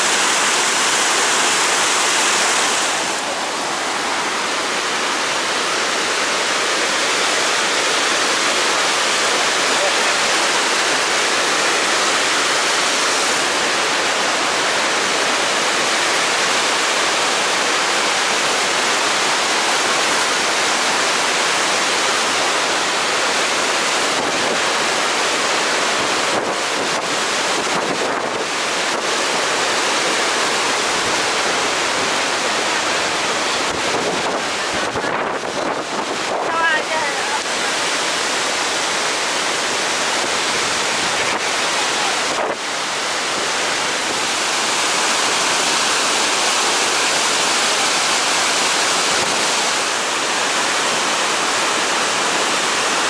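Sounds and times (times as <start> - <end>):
waterfall and rapids rushing: 0.0 - 53.0.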